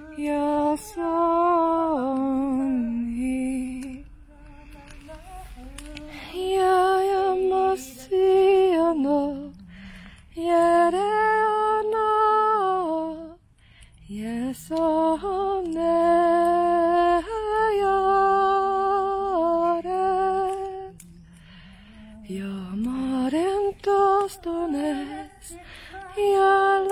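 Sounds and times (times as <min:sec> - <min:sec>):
woman singing slow melody: 0:00.0 - 0:26.9.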